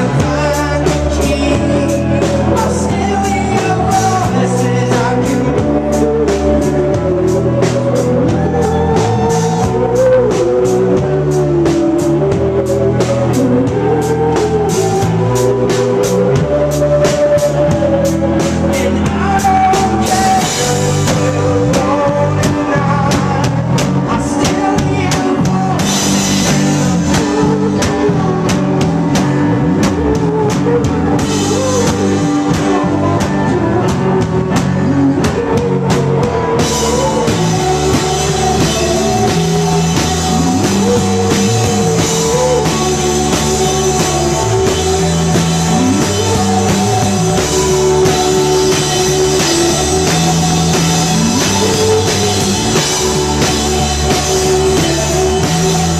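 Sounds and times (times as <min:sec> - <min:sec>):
live rock band: 0:00.0 - 0:55.9.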